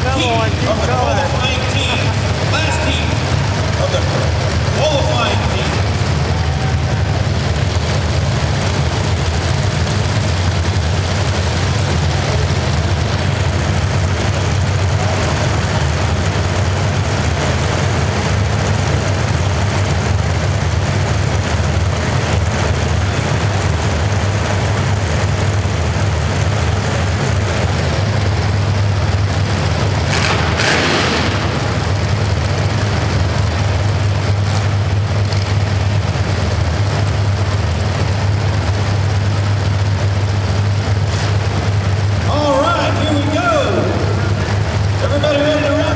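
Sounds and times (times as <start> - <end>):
low drone: 0.0 - 17.0, 25.8 - 45.9.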